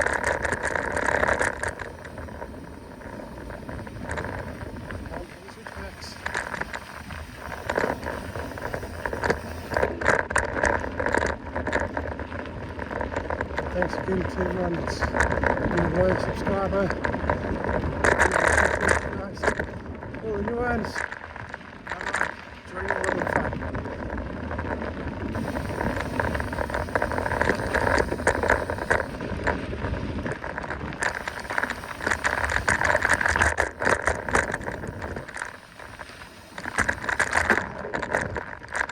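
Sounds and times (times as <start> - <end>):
bike rattling over bumps: 0.0 - 38.9
steady low rumble: 0.0 - 38.9
tyres crunching over dirt: 0.0 - 38.9.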